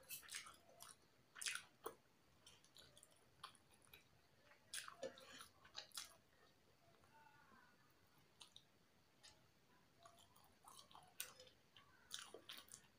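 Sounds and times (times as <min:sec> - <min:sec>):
person chewing: 0:00.0 - 0:06.6, 0:08.2 - 0:12.9.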